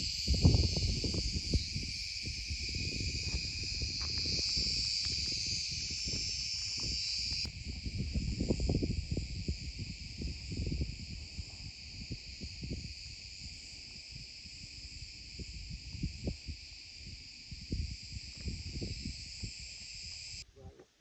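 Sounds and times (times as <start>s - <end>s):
low rumble on microphone: 0.0s - 19.5s
insects buzzing and shrilling: 0.0s - 21.0s.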